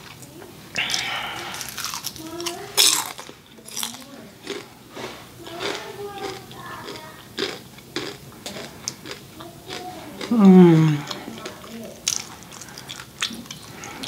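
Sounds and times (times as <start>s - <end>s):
crunchy food chewing: 0.8s - 14.0s.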